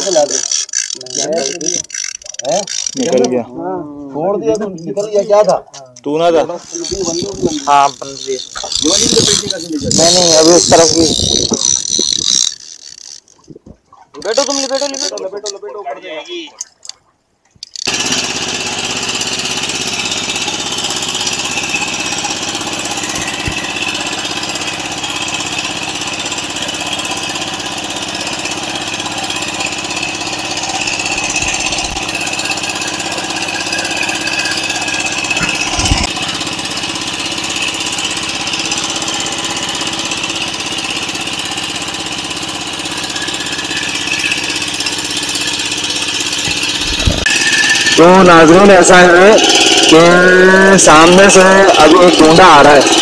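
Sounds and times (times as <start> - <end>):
boat engine droning: 6.2 - 15.6, 17.7 - 53.0.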